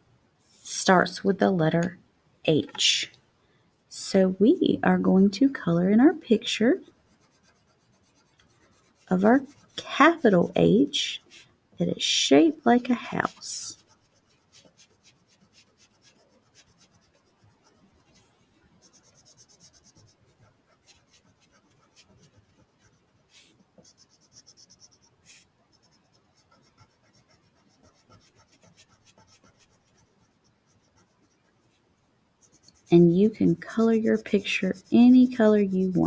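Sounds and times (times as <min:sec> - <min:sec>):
crayon scratching on paper: 0:06.3 - 0:31.8, 0:32.4 - 0:36.0.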